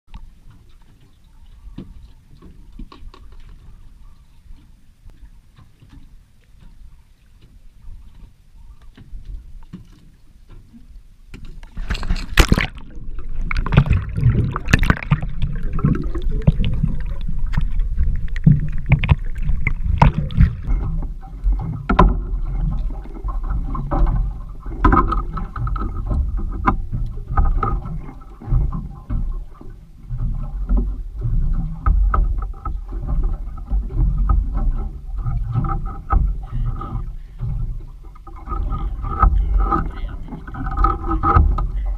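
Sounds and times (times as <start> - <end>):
sea water sloshing: 0.1 - 41.9.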